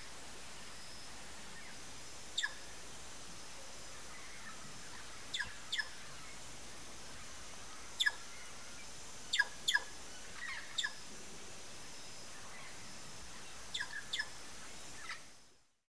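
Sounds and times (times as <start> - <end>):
steady outdoor hiss: 0.0 - 15.9.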